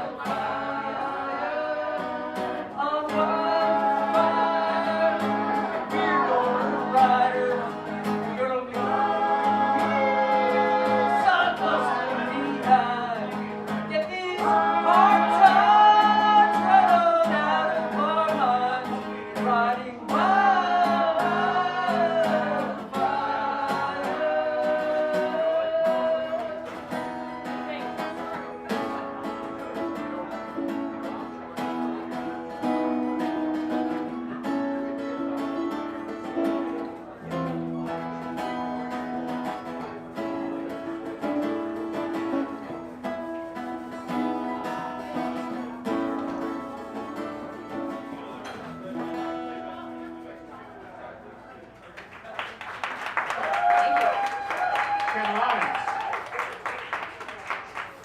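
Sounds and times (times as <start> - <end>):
acoustic guitars strumming: 0.0 - 52.0.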